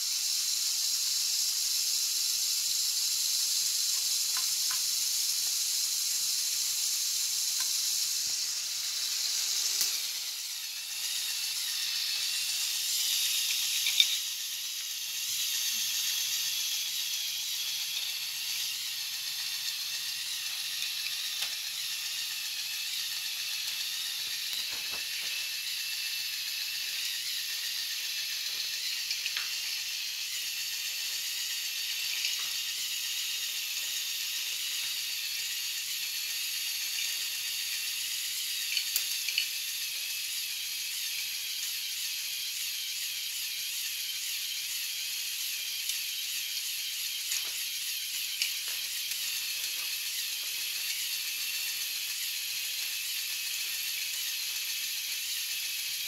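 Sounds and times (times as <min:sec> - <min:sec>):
toy motor and gears whirring: 0:00.0 - 0:56.0.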